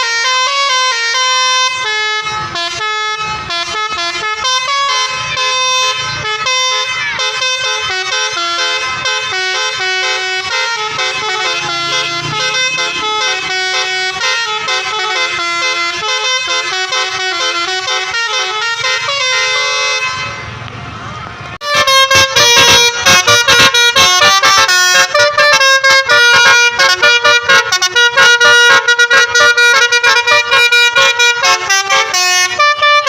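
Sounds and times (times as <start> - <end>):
multi-tone bus horn playing tune: 0.0 - 20.6, 21.6 - 33.0.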